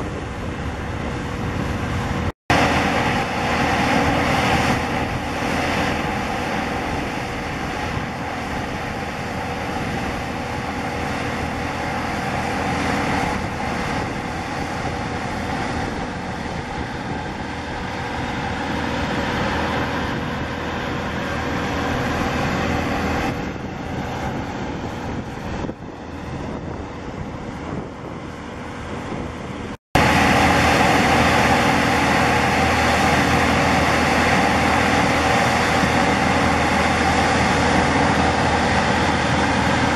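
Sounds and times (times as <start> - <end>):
jet engine rumble and whine: 0.0 - 39.9.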